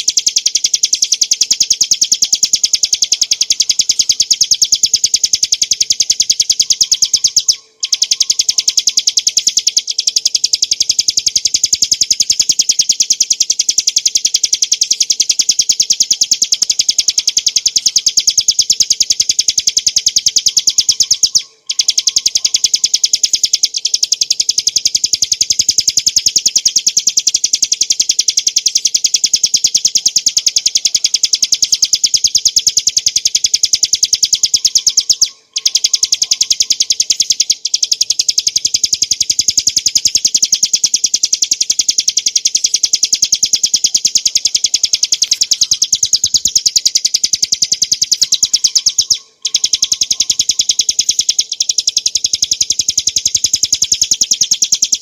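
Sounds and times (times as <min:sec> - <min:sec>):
prinia singing rapid rattle: 0:00.0 - 0:55.0.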